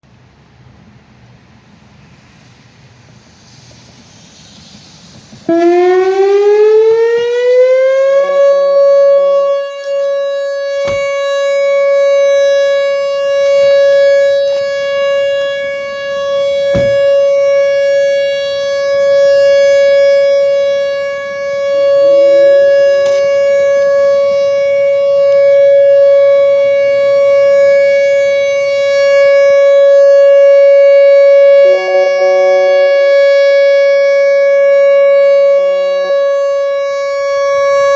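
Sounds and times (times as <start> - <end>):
outdoor warning siren steady tone: 0.0 - 37.9.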